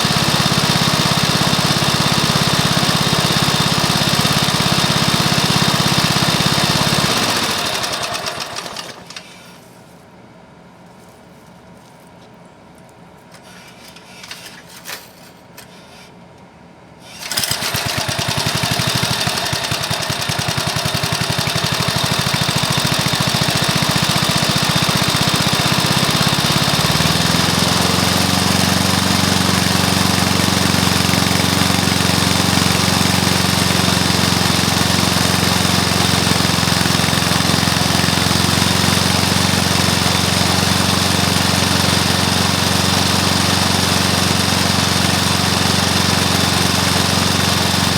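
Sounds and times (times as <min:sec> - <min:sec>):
lawn mower engine running: 0:00.0 - 0:09.3, 0:17.2 - 0:47.9.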